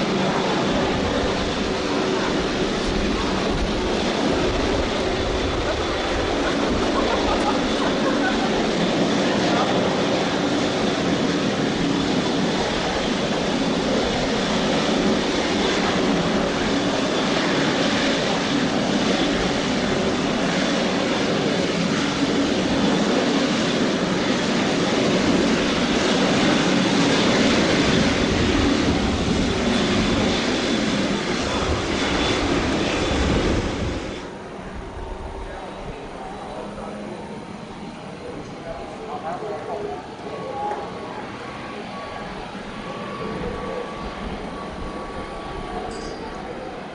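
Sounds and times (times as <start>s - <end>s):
jet engine running: 0.0s - 46.9s.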